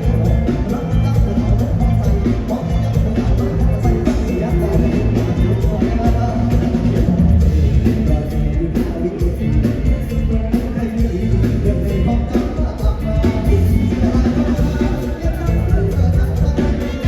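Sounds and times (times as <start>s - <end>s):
drum kit: 0.0s - 17.0s
heavy bass: 0.0s - 17.0s
person singing: 0.0s - 17.0s.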